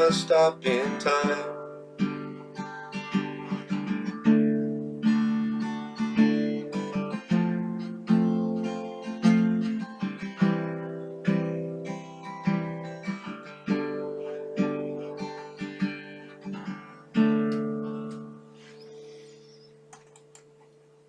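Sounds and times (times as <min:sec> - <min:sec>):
acoustic guitar strumming chords: 0:00.0 - 0:19.9.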